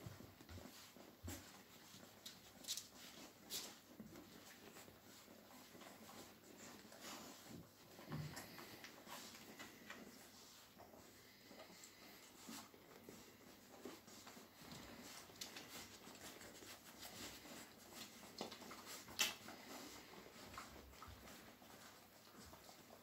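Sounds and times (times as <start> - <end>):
puppies suckling clicks and smacks: 0.0 - 23.0.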